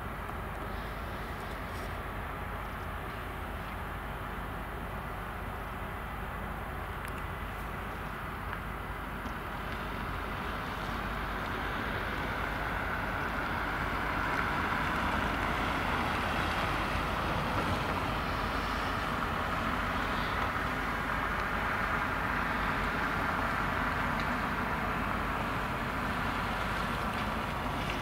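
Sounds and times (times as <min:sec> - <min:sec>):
ship machinery rumble and hiss: 0:00.0 - 0:28.0.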